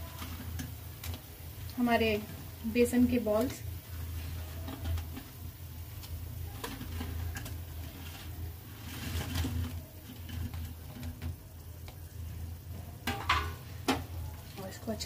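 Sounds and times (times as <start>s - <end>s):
gravy bubbling in a pan: 0.0s - 15.0s
soft plops and patter: 0.0s - 15.0s.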